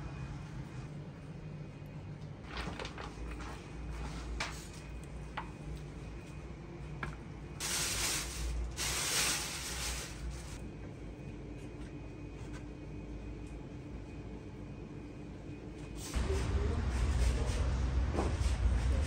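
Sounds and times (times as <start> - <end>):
kitchen background hum: 0.0 - 19.0.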